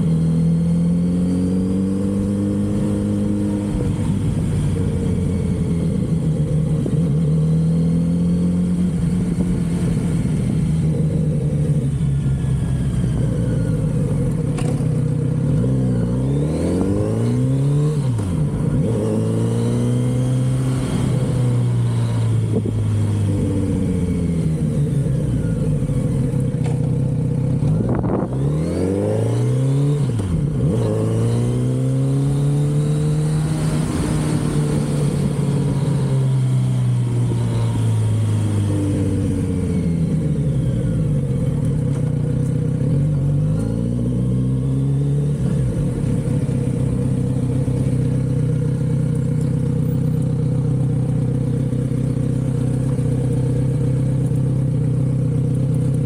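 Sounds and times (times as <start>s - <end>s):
motorcycle revving through gears: 0.0s - 56.0s.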